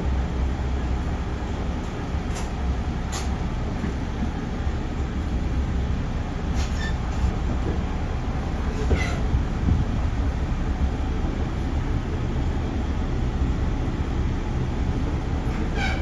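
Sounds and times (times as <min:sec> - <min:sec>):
train rumbling from inside: 0:00.0 - 0:16.0.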